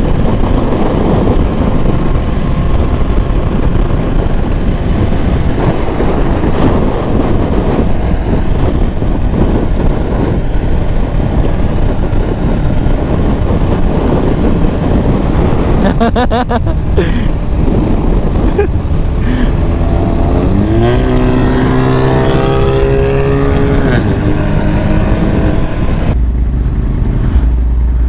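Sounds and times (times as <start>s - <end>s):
motorcycle engine running: 0.0s - 28.0s
rushing wind and road noise: 0.0s - 28.0s.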